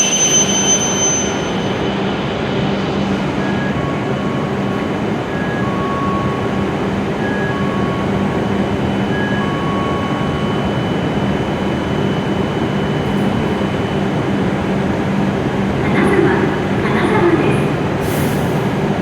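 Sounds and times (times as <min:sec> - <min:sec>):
train rushing into platform: 0:00.0 - 0:19.0.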